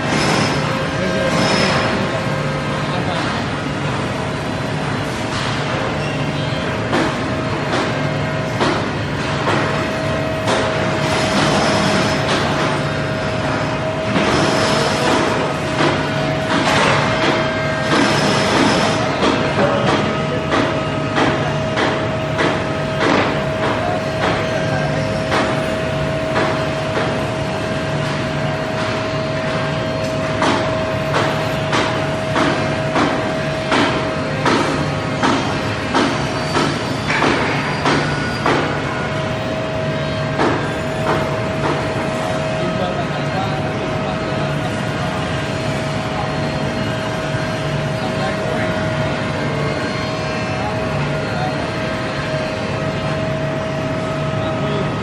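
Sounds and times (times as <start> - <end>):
cnc router whine: 0.0 - 55.0.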